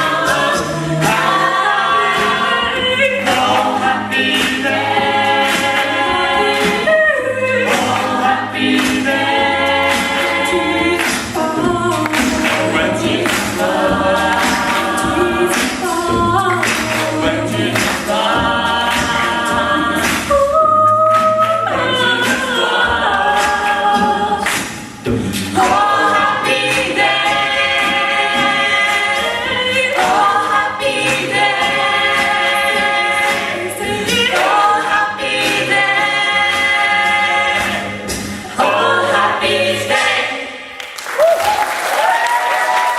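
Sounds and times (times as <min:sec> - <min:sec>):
a cappella group singing gospel: 0:00.0 - 0:40.8.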